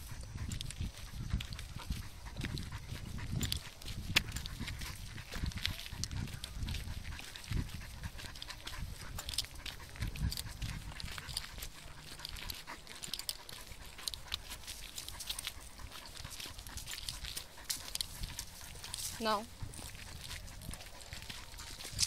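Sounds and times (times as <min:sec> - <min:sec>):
running footsteps on dirt: 0:00.0 - 0:22.0.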